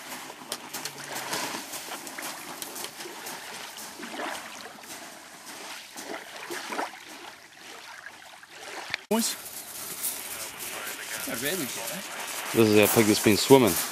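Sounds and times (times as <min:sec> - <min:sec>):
lake water lapping and splashing: 0:00.0 - 0:13.9.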